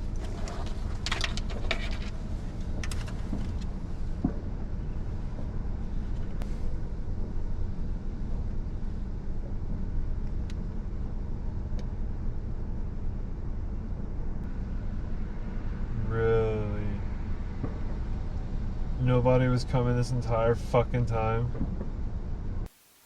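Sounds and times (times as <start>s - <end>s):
car cabin rumble: 0.0s - 22.7s.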